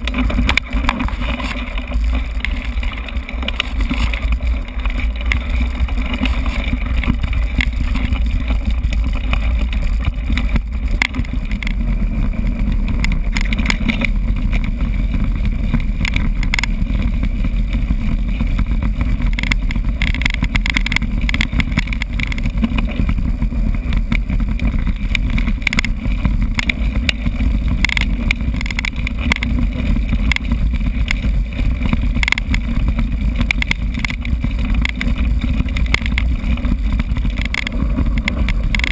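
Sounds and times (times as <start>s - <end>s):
mountain bike rumbling and rattling: 0.0s - 38.9s.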